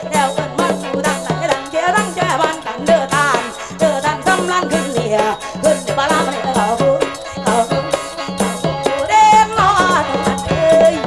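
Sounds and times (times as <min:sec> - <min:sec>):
band music with sliding melody: 0:00.0 - 0:11.0.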